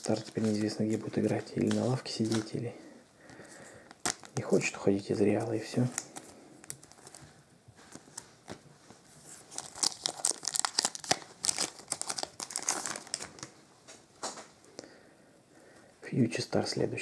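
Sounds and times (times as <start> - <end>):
plastic wrapper crinkling: 0.0 - 2.7, 3.4 - 14.3.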